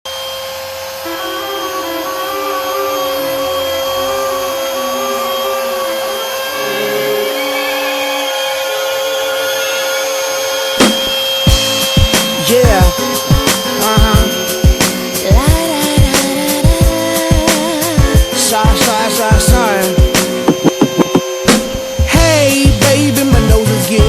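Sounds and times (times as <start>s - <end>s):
machine motor hum and hiss: 0.1s - 24.0s
stepper motors whining: 0.1s - 24.0s.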